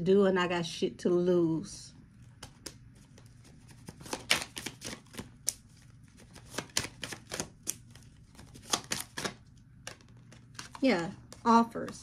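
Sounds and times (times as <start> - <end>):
cards shuffled on a table: 2.3 - 12.0.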